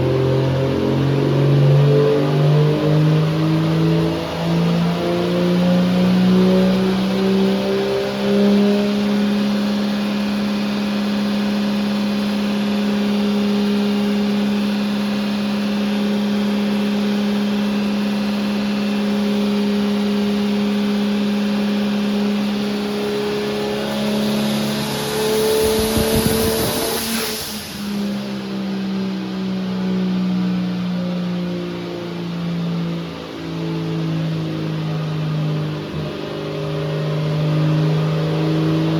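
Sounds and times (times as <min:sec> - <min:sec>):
engine running under load: 0:00.0 - 0:38.9.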